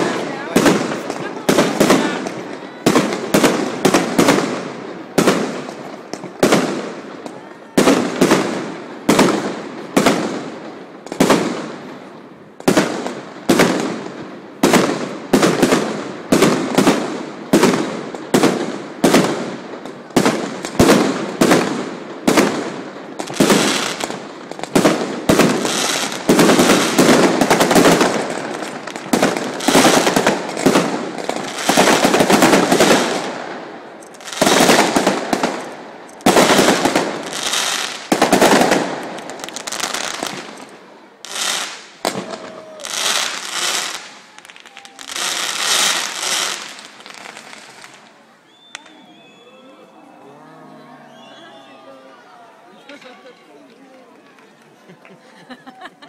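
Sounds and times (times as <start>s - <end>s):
firework crackling barrage: 0.0s - 49.4s.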